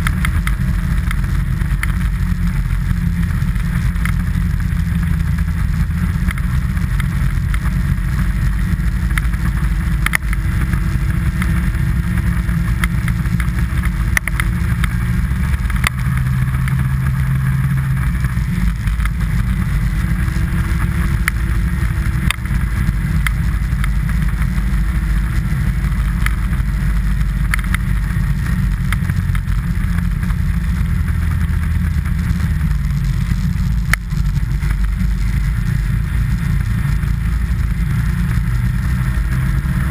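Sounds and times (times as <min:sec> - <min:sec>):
small clicks and knocks: 0:00.0 - 0:39.9
wind rumble on microphone: 0:00.0 - 0:39.9.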